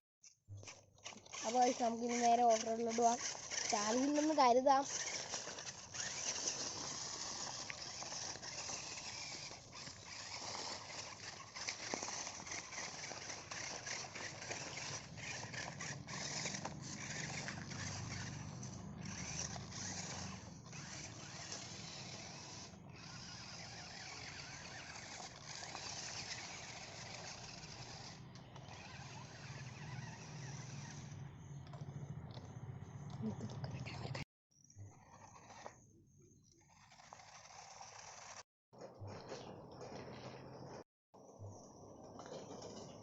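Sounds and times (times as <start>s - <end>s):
rc car crackling over rough ground: 0.2s - 32.5s, 34.8s - 40.8s.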